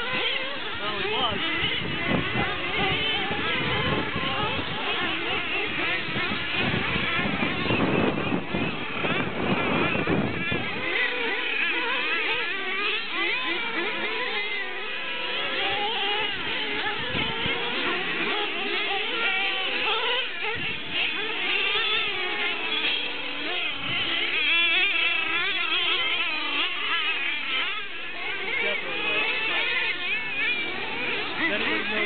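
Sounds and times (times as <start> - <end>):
small engines revving: 0.0 - 32.0.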